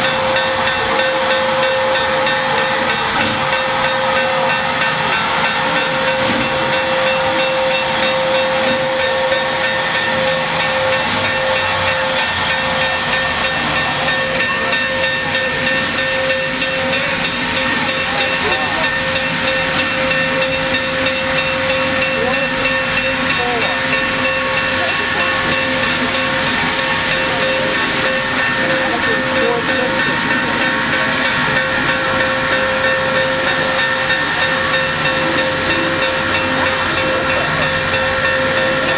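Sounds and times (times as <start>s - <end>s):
steam hissing: 0.0s - 38.9s.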